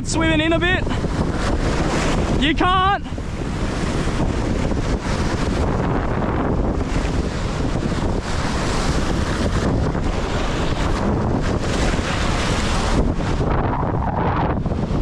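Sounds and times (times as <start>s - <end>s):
ocean surf breaking over rocks: 0.0s - 15.0s
wind buffeting microphone: 0.0s - 15.0s.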